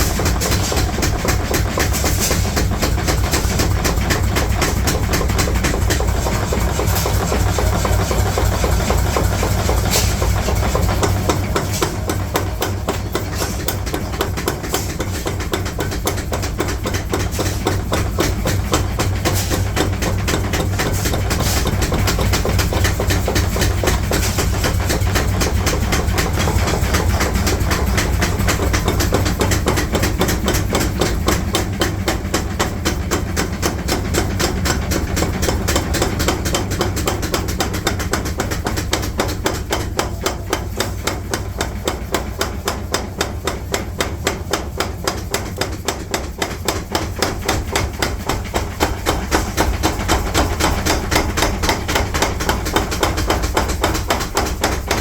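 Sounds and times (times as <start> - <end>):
low machine hum: 0.0 - 55.0
rapid metal hammering: 0.0 - 55.0.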